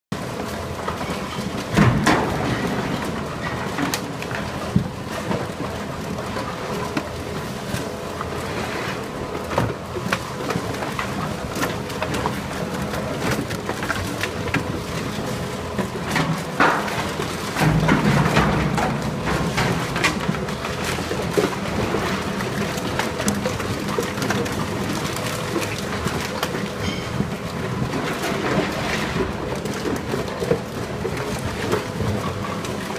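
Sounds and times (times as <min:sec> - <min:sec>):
machine hum: 0:00.2 - 0:32.9.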